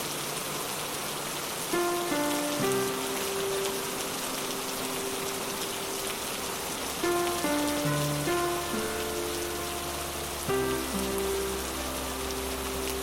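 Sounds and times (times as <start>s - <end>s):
rain falling: 0.0s - 13.0s
soft music: 0.0s - 13.0s.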